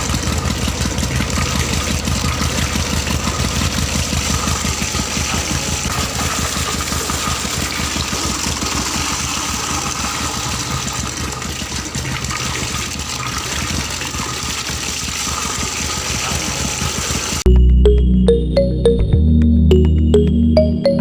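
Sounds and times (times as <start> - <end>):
water gushing: 0.0 - 17.4
small petrol engine running: 0.0 - 17.5.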